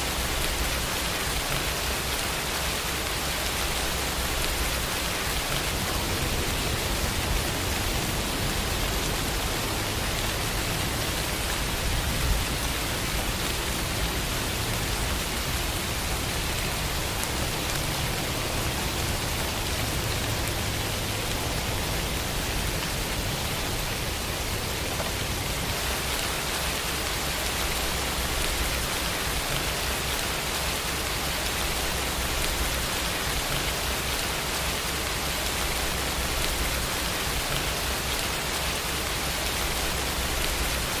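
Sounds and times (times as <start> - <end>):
steady rainfall: 0.0 - 41.0.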